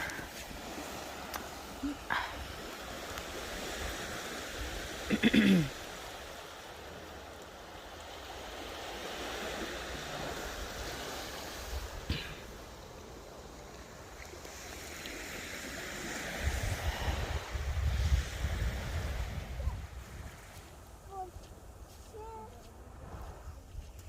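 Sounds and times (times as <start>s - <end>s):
waves washing on shore: 0.0s - 24.0s.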